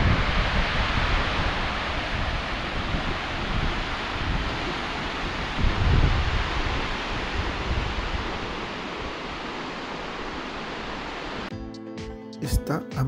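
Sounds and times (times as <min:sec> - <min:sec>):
flowing water rushing: 0:00.0 - 0:11.5
wind buffeting microphone: 0:00.0 - 0:11.5.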